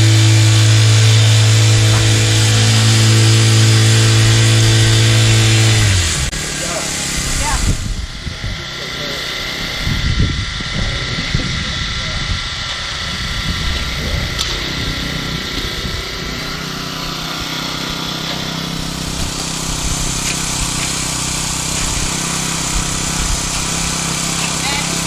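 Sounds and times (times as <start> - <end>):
small engine humming: 0.0 - 25.0.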